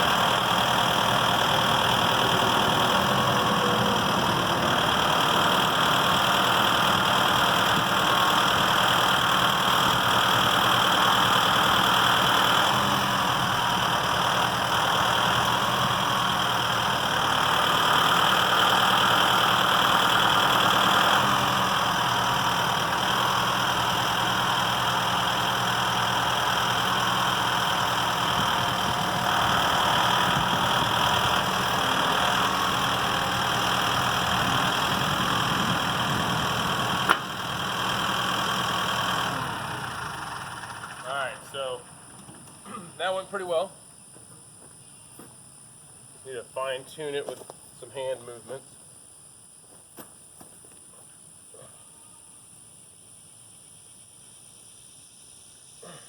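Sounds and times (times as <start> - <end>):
tractor engine running: 0.0 - 47.6.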